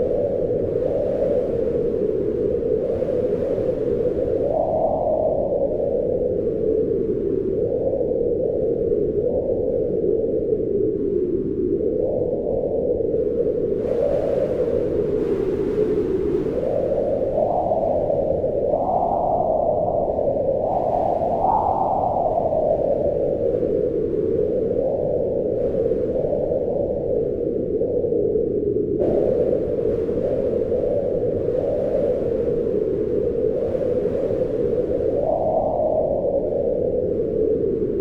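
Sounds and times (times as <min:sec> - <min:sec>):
strong wind howling: 0:00.0 - 0:38.0.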